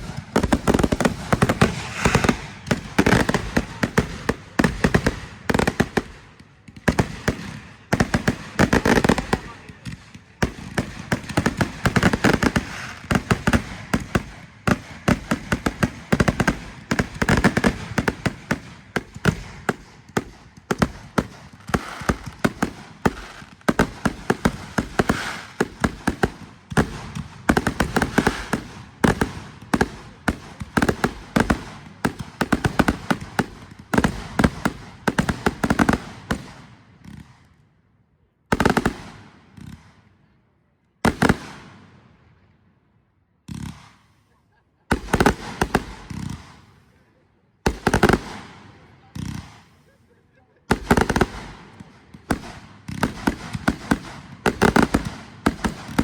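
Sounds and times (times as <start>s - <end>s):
fireworks bangs and crackles: 0.0s - 37.6s, 38.5s - 40.4s, 41.0s - 42.6s, 43.4s - 56.0s.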